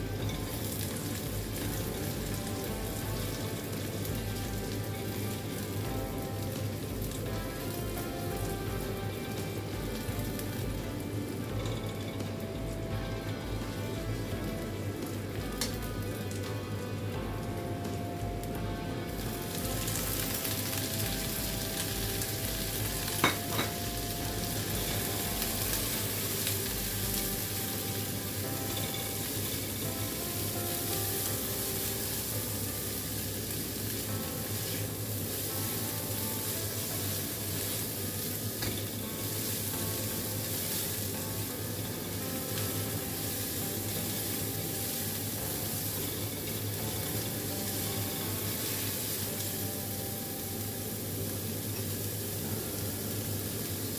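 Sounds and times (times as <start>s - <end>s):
chillies sizzling in hot oil: 0.0s - 53.9s.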